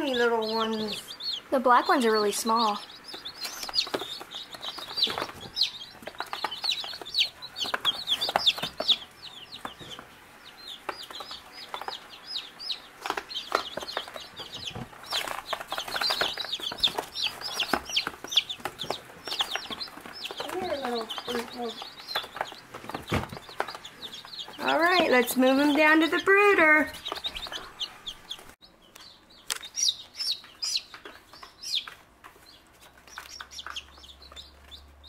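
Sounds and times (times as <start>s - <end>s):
chicks peeping: 0.0s - 35.0s.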